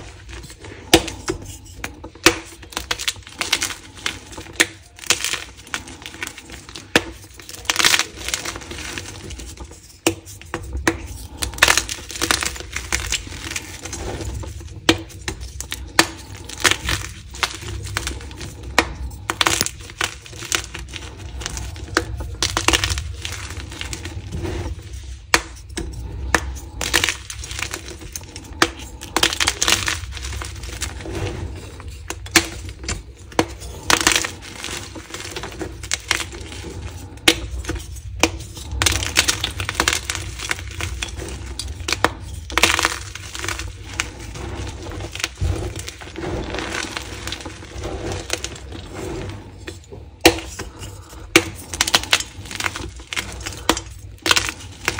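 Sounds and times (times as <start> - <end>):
chalk blocks crunching by hand: 0.0 - 54.9
chalk pieces falling: 0.0 - 54.9.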